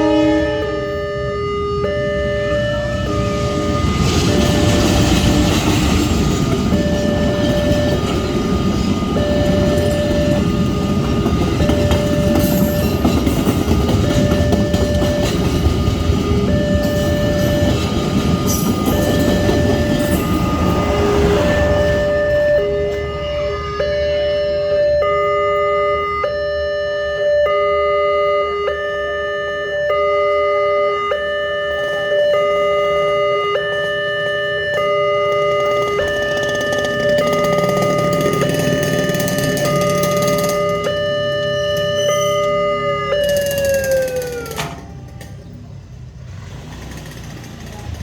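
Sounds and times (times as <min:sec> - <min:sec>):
level crossing two-tone alarm: 0:00.0 - 0:45.6.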